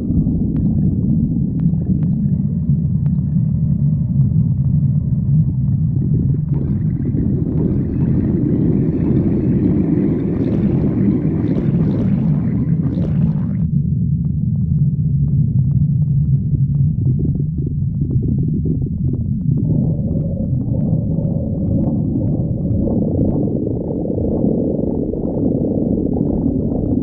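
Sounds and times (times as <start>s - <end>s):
stomach growling low rumble: 0.0s - 27.0s
stomach gurgling: 0.0s - 27.0s.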